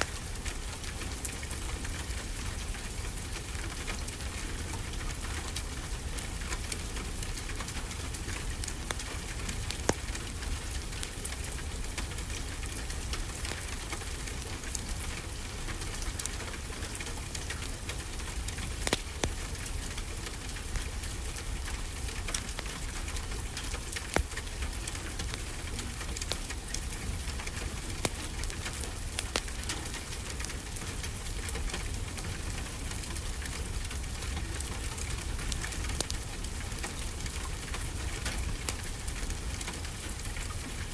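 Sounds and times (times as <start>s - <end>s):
rainfall hiss: 0.0s - 40.9s
wood fire crackling: 0.0s - 40.9s.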